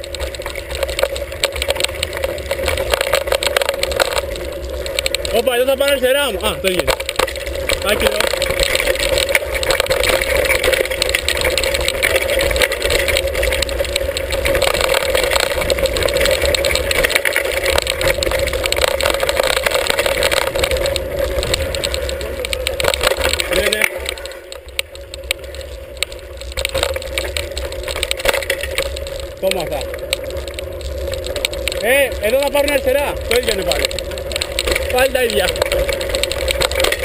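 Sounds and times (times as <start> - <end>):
bike rattling over rocky trail: 0.0 - 37.0
wind rumble on microphone: 0.0 - 37.0.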